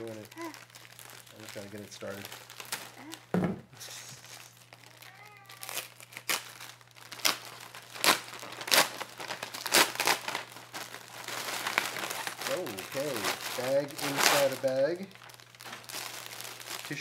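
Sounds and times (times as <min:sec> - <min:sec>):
mailing envelope crinkling: 0:00.0 - 0:03.3, 0:04.2 - 0:17.0.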